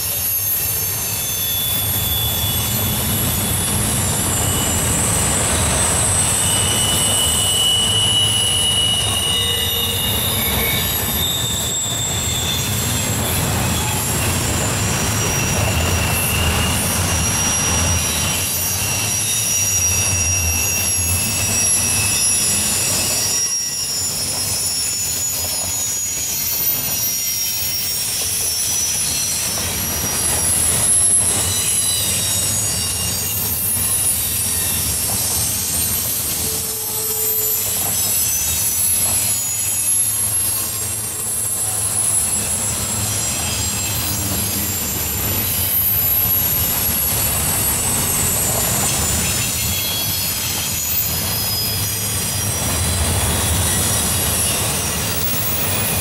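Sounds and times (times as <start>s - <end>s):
high-pitched wheel squeal: 0.0s - 56.0s
train wheels rumbling on rail: 0.0s - 56.0s.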